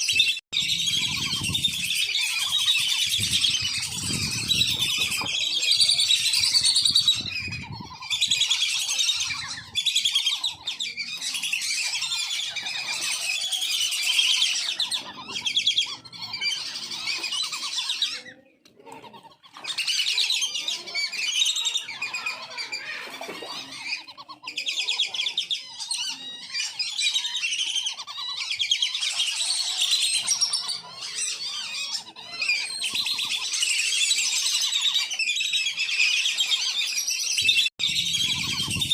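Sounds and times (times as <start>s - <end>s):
ducks whistling and chattering: 0.0s - 38.9s.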